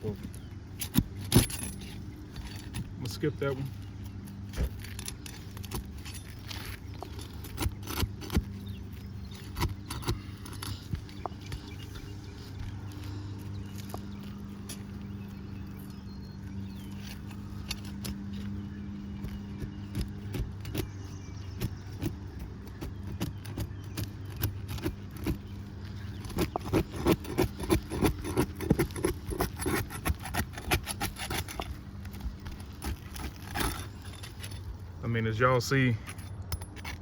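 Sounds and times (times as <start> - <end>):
pry tool scraping shingles: 0.0 - 15.0, 16.7 - 37.0.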